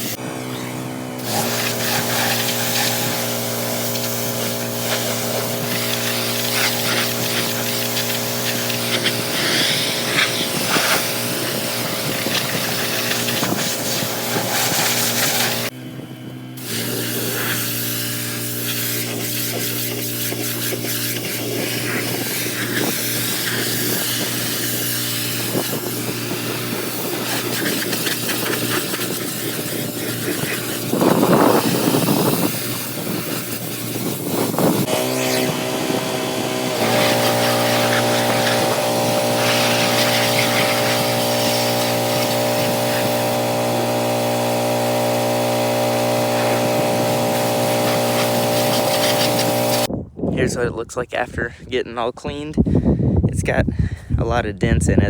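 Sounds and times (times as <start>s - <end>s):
high-pressure water spray: 0.0s - 15.8s, 16.6s - 49.9s
pressure washer motor hum: 0.0s - 49.9s.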